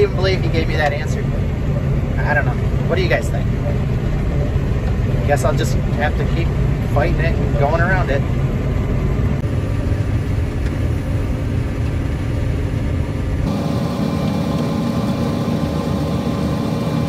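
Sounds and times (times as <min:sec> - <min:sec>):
combine harvester engine running: 0:00.0 - 0:17.0
machine drone hum: 0:00.0 - 0:17.0.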